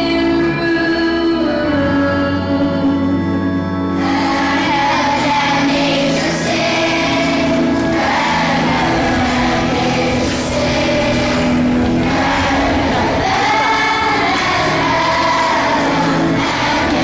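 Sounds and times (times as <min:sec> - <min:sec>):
children's choir singing: 0:00.0 - 0:17.0
musical accompaniment: 0:00.0 - 0:17.0.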